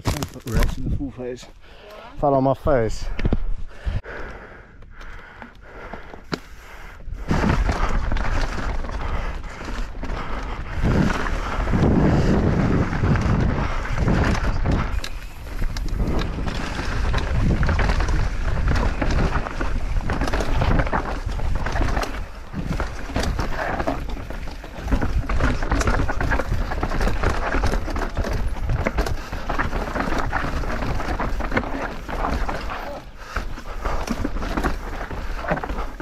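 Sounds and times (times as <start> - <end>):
bike tyres rumbling over rocks: 0.0 - 1.0, 5.2 - 36.0
bike rattling and knocking: 5.3 - 36.0
wind buffeting microphone: 7.0 - 36.0.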